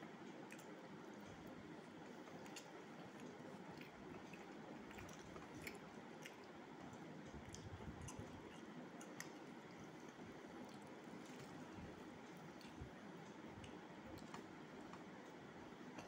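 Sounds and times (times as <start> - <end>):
chewing: 0.3 - 16.0.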